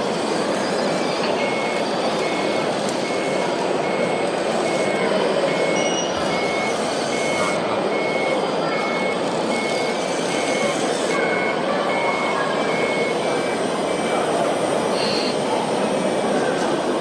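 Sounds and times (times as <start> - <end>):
reversing beeper: 1.0 - 15.4.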